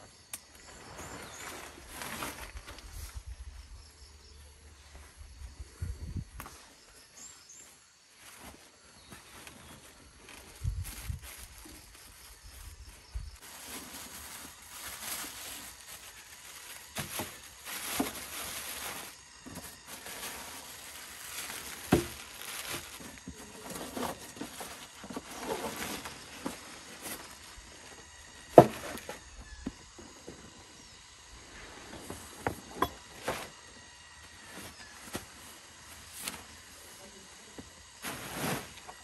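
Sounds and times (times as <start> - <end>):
high insect drone: 0.0 - 39.0
rustling and scraping: 0.6 - 3.4, 4.2 - 39.0.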